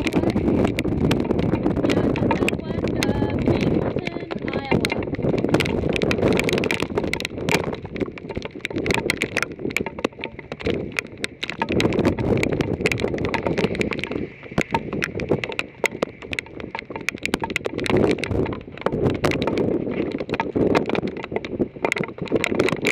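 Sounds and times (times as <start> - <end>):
gusting wind: 0.0 - 22.9
hail pelting a vehicle: 0.0 - 22.9.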